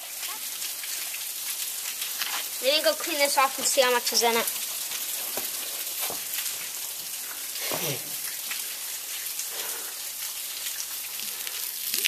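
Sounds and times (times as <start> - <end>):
waterfall splashing onto rock: 0.0 - 12.0.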